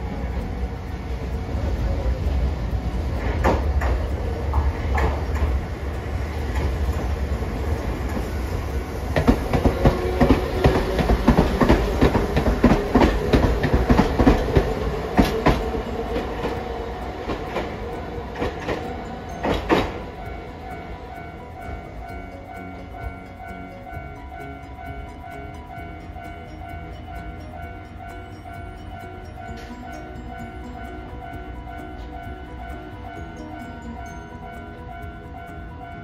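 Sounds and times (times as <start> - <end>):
steady tram whine: 0.0 - 36.0
tram wheels clattering over rail joints: 0.0 - 36.0.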